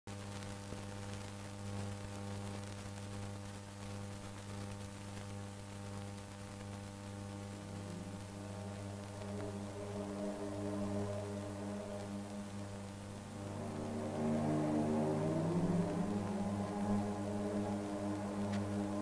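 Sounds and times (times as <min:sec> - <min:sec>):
background hiss: 0:00.1 - 0:19.0
electrical hum with overtones: 0:00.1 - 0:19.0.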